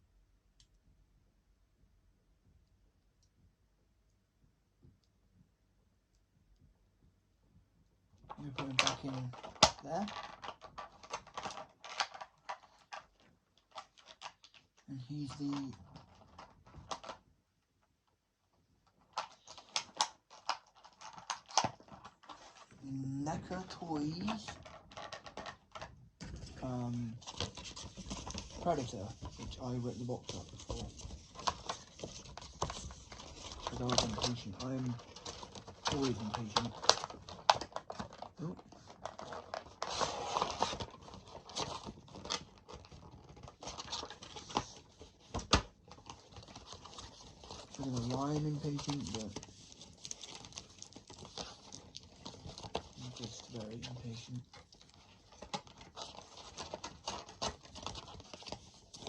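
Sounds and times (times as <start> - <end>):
packaging clicks and crackles: 8.3 - 17.2, 19.0 - 59.0.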